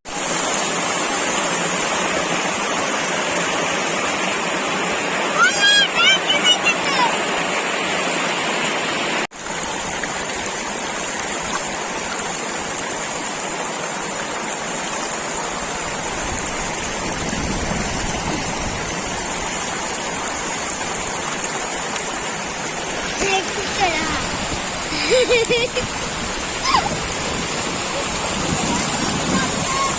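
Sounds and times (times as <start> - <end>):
flowing water rushing: 0.1 - 29.9.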